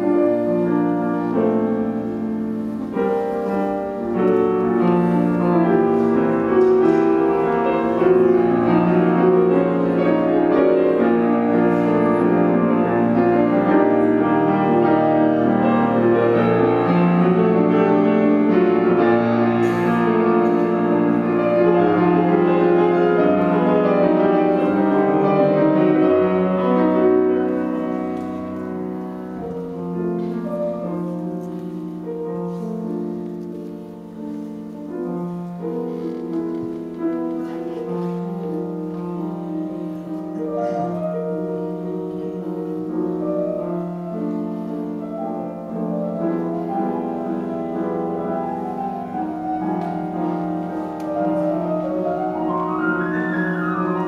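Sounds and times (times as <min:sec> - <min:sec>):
solo jazz piano: 0:00.0 - 0:54.0.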